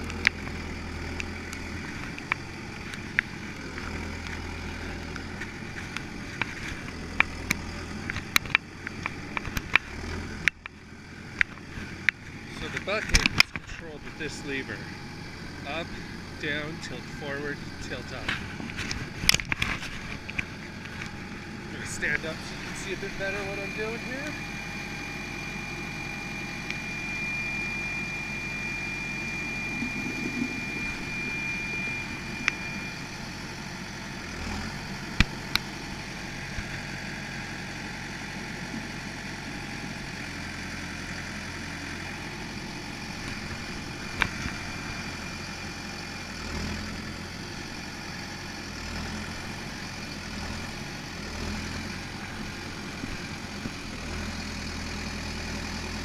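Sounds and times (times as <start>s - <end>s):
high steady whine: 0.0s - 56.0s
tractor engine running: 0.0s - 56.0s.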